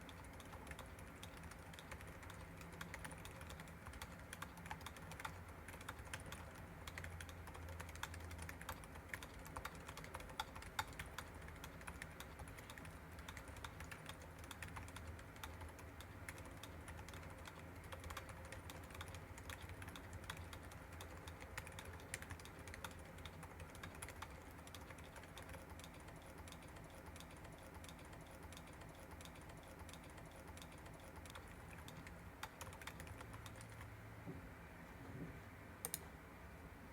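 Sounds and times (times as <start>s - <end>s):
muted keyboard keystrokes: 0.0s - 33.9s, 35.8s - 36.1s.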